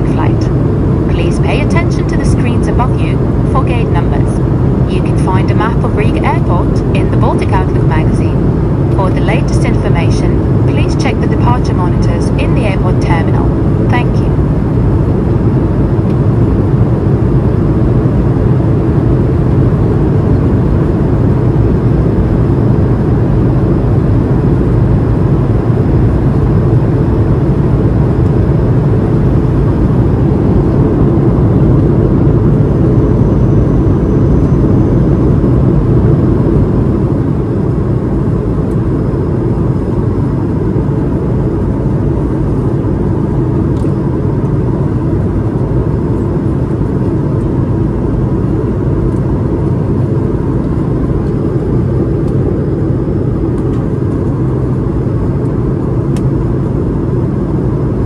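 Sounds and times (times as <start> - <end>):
aircraft cabin engine rush: 0.0 - 58.0
airflow over fuselage: 0.0 - 58.0.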